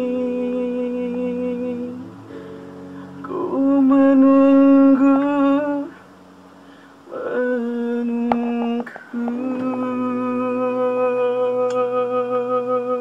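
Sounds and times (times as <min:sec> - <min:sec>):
man singing long wordless notes: 0:00.0 - 0:06.2, 0:07.0 - 0:13.0
faint low accompaniment: 0:00.0 - 0:13.0.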